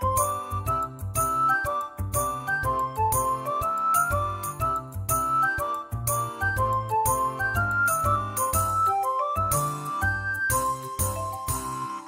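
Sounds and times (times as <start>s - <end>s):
light bright melody over beat: 0.0s - 12.0s.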